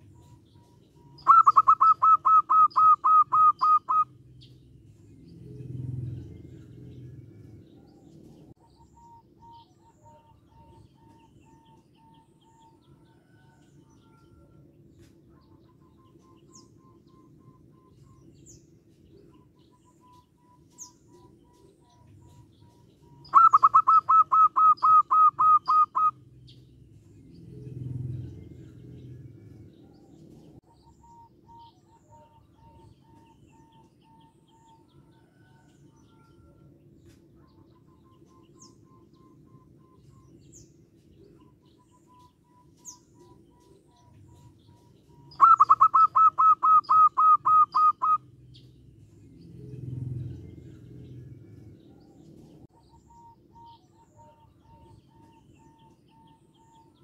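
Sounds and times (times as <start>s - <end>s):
dove calling: 0.0s - 4.6s, 5.6s - 48.7s, 49.5s - 57.0s.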